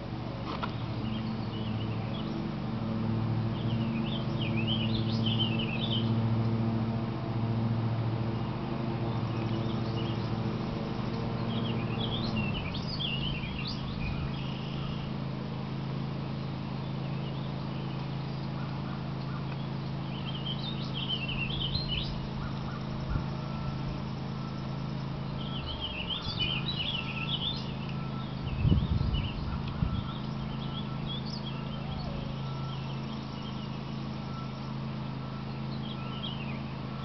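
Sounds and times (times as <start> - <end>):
steady low hum: 0.0 - 37.0
songbird warbling chirps: 0.5 - 2.6, 3.5 - 6.6, 8.3 - 37.0.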